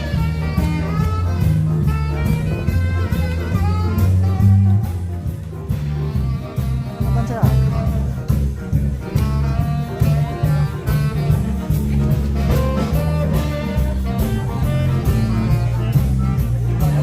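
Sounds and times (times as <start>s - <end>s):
jazzy music with horns: 0.0s - 17.0s.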